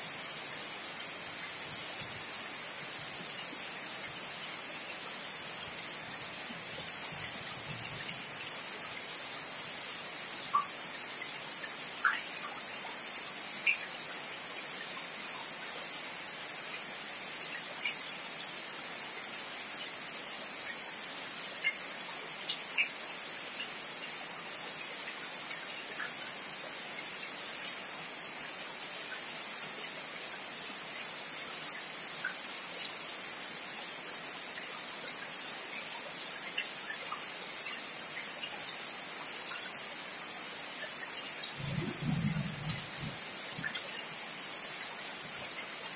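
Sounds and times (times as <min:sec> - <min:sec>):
steady rain on trees: 0:00.0 - 0:45.9.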